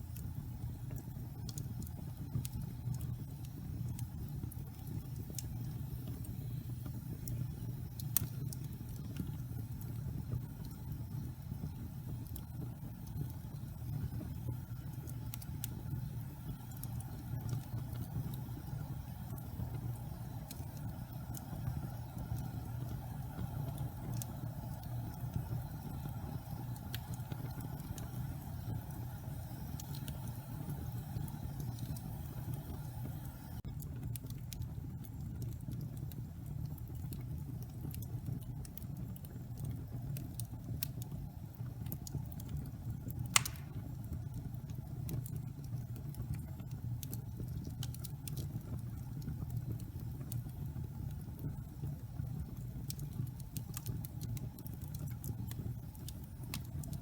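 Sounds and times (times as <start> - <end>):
fire crackling and popping: 0.0 - 57.0
wood fire rumbling: 0.0 - 57.0.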